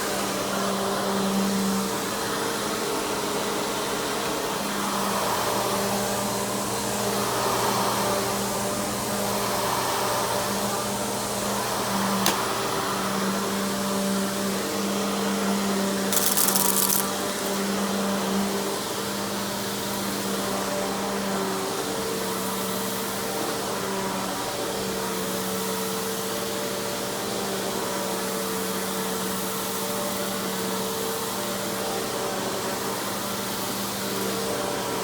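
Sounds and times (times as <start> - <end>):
vacuum cleaner motor running: 0.0 - 35.0.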